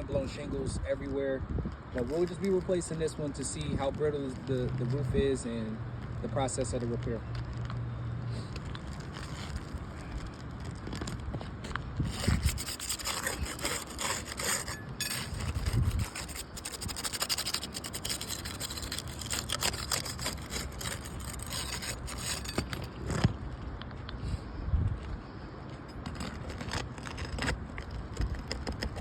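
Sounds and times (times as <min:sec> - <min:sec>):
scraping on asphalt shingles: 0:02.0 - 0:24.1, 0:25.3 - 0:29.0.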